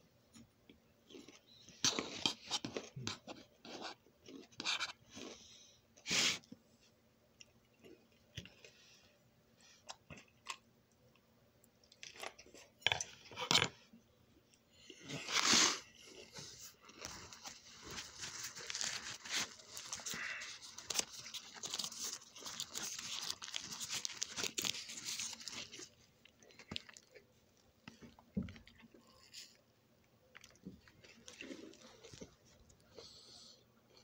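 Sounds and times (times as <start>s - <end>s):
person chewing food: 1.0s - 5.5s, 9.8s - 34.0s.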